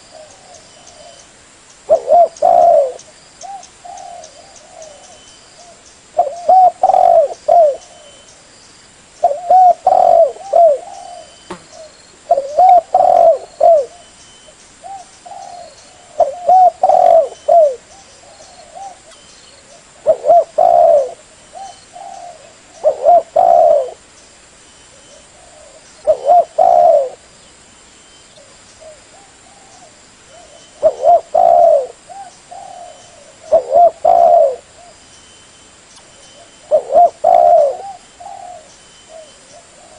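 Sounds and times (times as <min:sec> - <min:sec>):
dove cooing: 0:01.9 - 0:08.3, 0:09.2 - 0:14.1, 0:14.8 - 0:24.0, 0:24.9 - 0:27.3, 0:28.4 - 0:35.0, 0:36.2 - 0:39.9.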